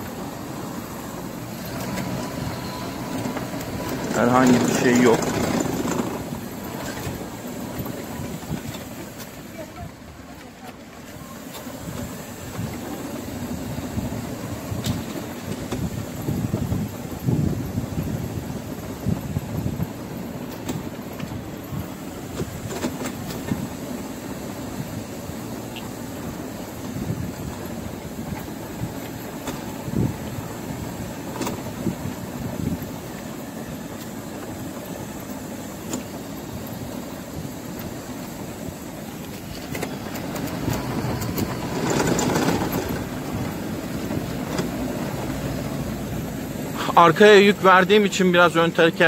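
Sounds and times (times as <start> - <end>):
wheelchair wheels rattling on pavers: 0.0 - 49.0
wobbling front wheel noise: 0.0 - 49.0.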